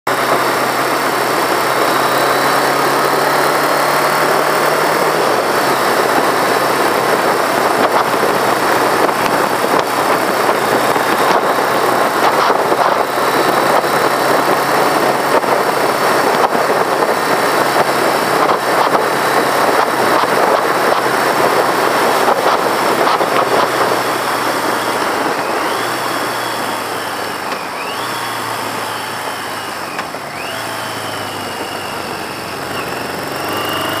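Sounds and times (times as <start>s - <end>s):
motorcycle engine running: 0.1s - 34.0s
heavy wind rush: 0.4s - 33.3s.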